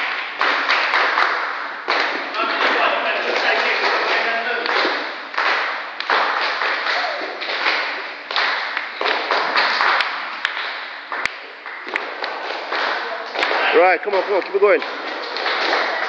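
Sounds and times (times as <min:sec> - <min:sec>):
children clapping: 0:00.0 - 0:16.0.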